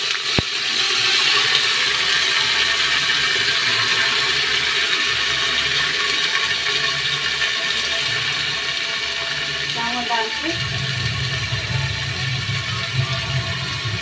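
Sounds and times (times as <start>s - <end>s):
rice sizzling in hot oil: 0.0s - 14.0s.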